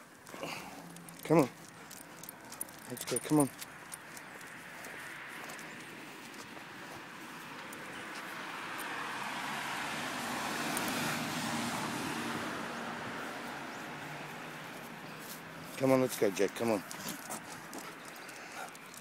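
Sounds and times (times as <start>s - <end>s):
vehicle passing on road: 0.0s - 19.0s.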